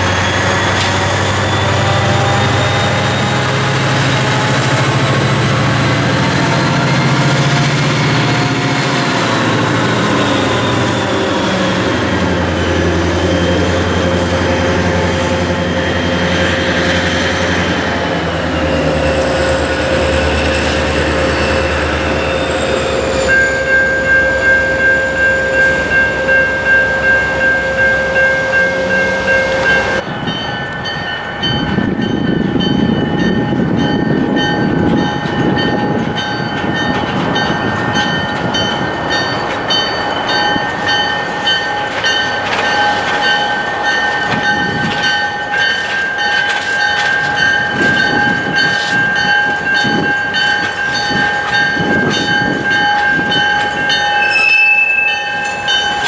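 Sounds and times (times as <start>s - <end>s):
crossing bell ringing: 0.0s - 56.0s
diesel locomotive rumbling: 0.0s - 56.0s
distant train: 0.0s - 56.0s
train cars rolling: 0.0s - 56.0s.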